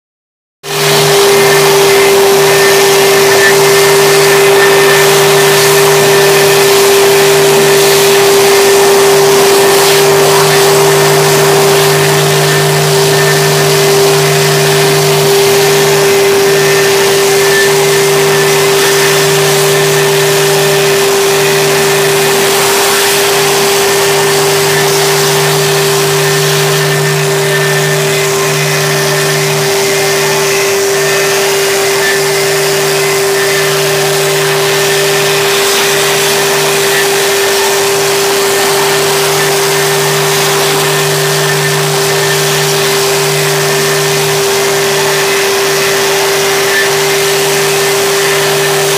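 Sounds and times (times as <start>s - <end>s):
cnc router spindle whine: 0.6s - 48.9s
dust extraction hose rushing: 0.6s - 48.9s.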